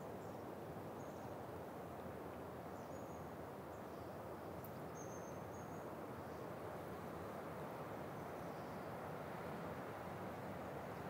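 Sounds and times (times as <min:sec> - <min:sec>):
wind through pine trees: 0:00.0 - 0:11.0.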